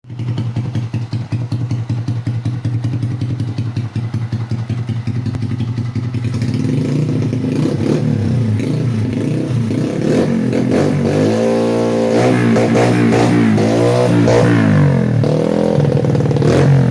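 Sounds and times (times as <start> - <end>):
motorcycle engine idling and revving: 0.0 - 16.9.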